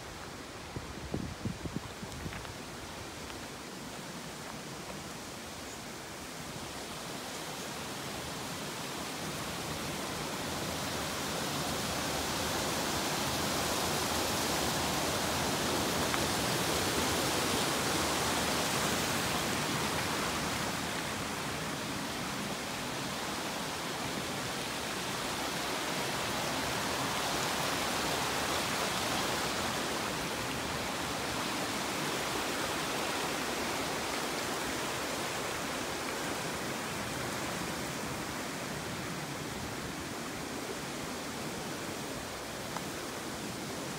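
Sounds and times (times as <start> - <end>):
rushing creek water: 0.0 - 43.9.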